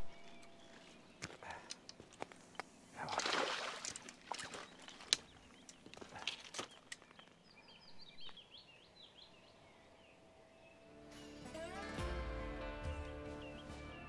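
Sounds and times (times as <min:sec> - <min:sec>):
songbird singing: 0:00.0 - 0:11.1, 0:13.2 - 0:14.0.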